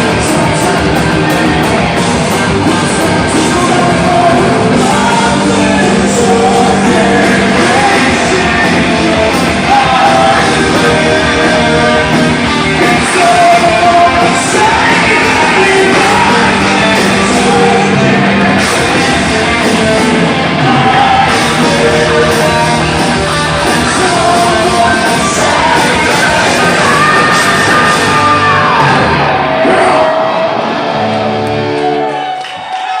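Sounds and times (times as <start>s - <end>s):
live rock band: 0.0s - 33.0s.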